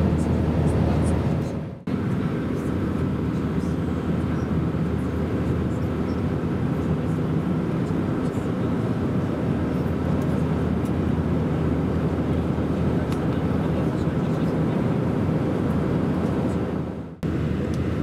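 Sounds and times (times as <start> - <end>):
airplane cabin noise: 0.0 - 18.0
low engine hums: 0.0 - 18.0.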